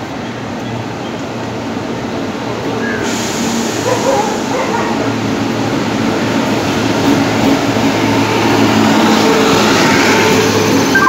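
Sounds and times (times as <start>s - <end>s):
locomotive hum: 0.0s - 11.0s
train wheel and rail noise: 0.0s - 11.0s.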